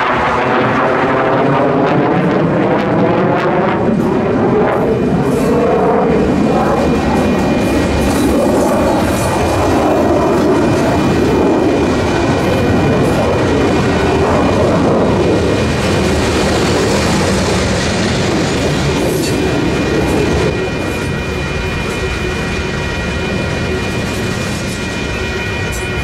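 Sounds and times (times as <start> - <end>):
train wheels on rails: 3.8 - 26.0.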